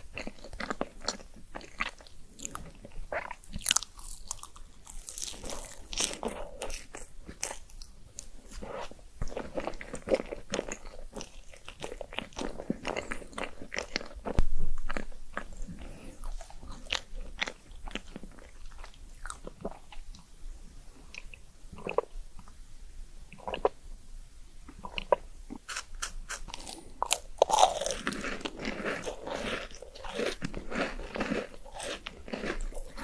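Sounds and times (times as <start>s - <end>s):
crunching and chewing food: 0.0s - 20.3s, 24.7s - 33.0s.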